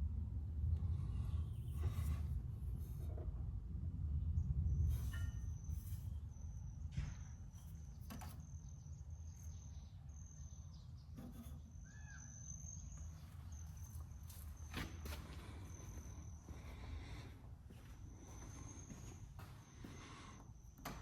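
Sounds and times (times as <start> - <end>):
continuous low rumble: 0.0 - 21.0.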